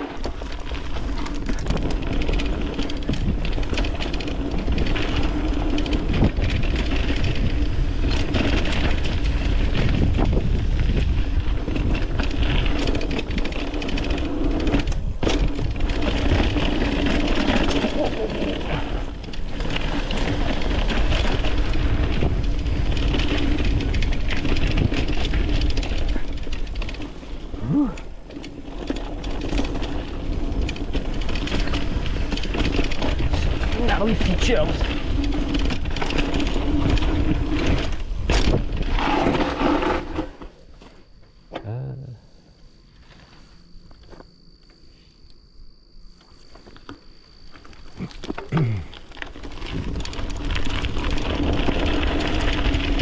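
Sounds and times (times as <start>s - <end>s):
bike rattling: 0.0s - 41.5s, 46.1s - 53.0s
bike tyres rumbling over dirt: 0.0s - 41.5s, 45.8s - 53.0s.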